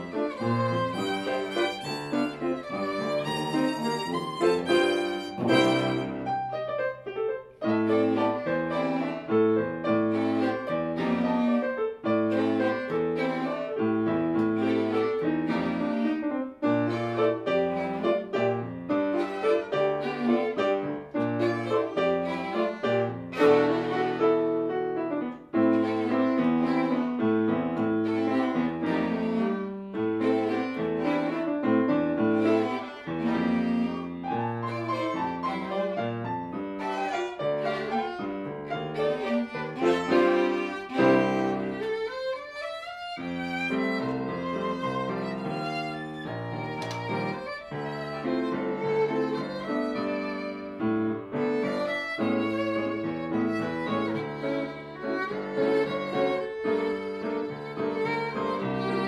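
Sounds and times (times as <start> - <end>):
bowed strings: 0.0 - 7.0, 7.6 - 59.0
grand piano: 0.0 - 59.0.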